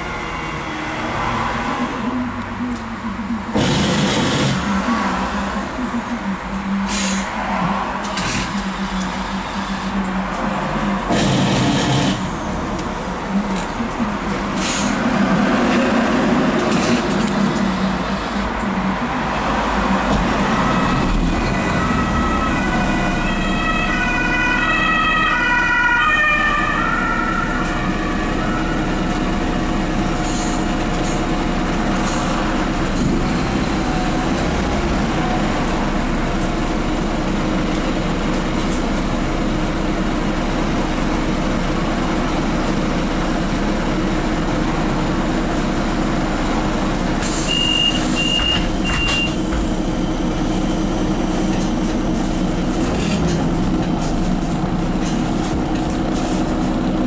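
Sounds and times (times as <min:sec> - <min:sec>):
bus engine starting and idling: 0:00.0 - 0:57.0.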